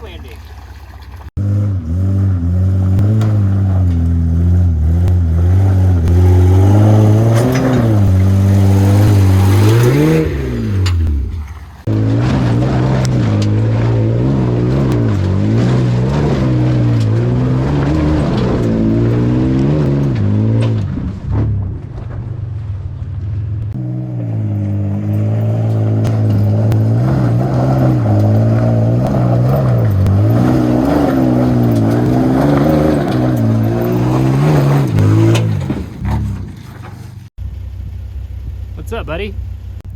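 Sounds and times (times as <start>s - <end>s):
loud engine with straight pipes: 1.4s - 39.9s.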